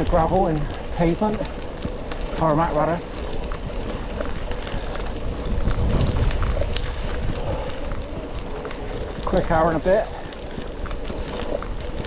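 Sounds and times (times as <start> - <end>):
bicycle tyres rolling on road: 0.0 - 12.0
rumble: 0.0 - 12.0
wind buffeting microphone: 0.0 - 12.0
small ticks: 0.7 - 12.0.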